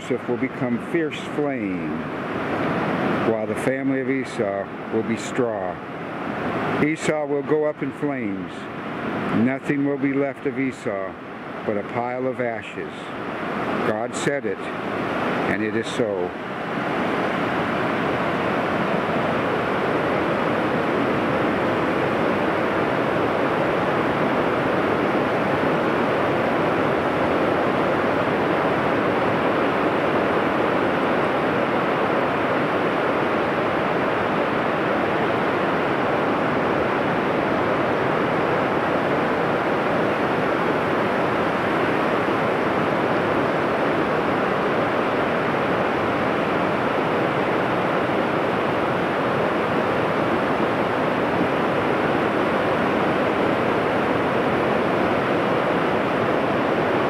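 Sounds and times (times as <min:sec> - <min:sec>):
ocean surf breaking: 0:00.0 - 0:57.0.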